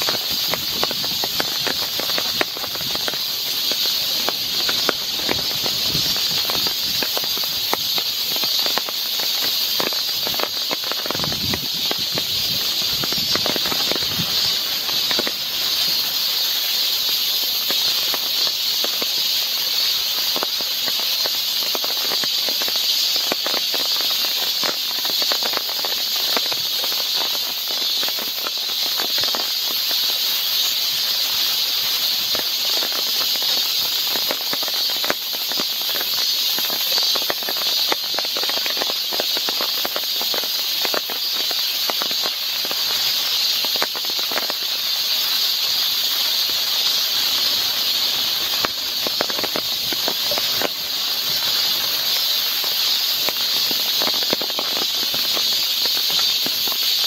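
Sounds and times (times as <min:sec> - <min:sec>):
rain on foliage: 0:00.0 - 0:57.0.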